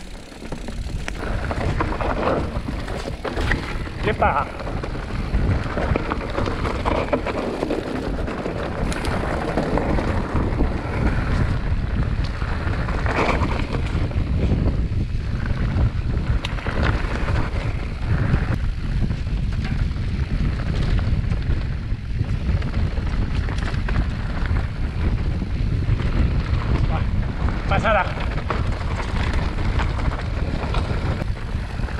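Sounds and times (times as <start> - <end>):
tyres rumbling over rough trail: 0.0 - 31.9
wind buffeting microphone: 0.0 - 31.9.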